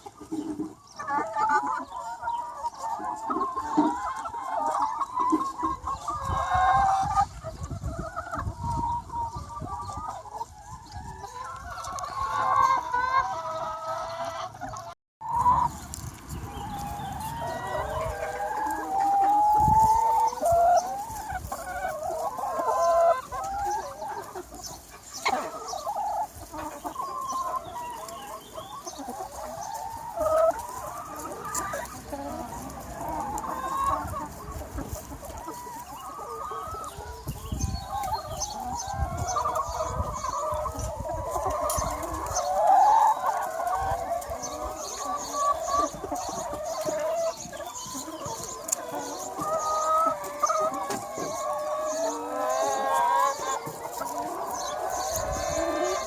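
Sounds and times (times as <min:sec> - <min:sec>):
chicken flock clucking: 0:00.0 - 0:56.0.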